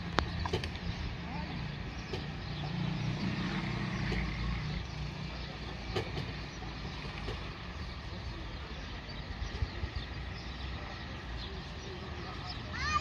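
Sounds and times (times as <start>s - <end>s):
motor vehicle engine rumble: 0.0s - 13.0s
outdoor background noise: 0.0s - 13.0s.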